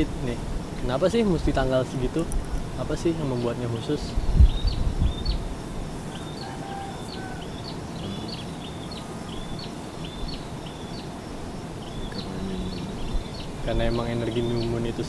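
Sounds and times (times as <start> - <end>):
low rumble of wind or surf: 0.0 - 15.0.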